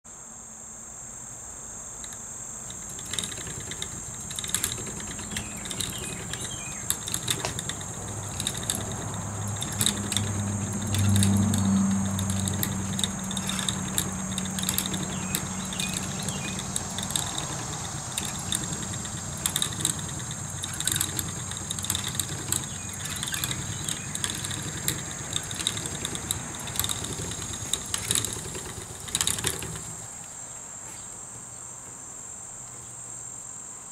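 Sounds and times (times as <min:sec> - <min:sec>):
insects chirring: 0:00.1 - 0:33.9
spinning wheel knocking and clicking: 0:02.0 - 0:30.1.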